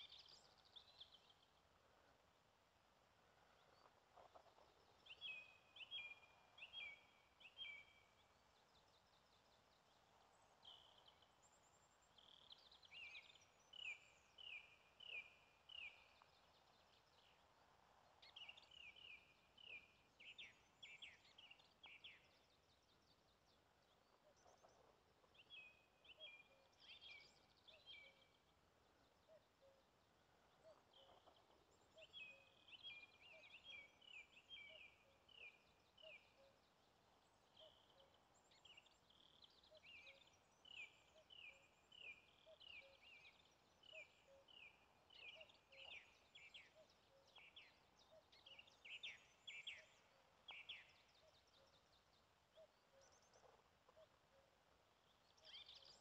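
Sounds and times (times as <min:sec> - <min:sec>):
faint songbirds chirping: 0:00.0 - 0:56.0.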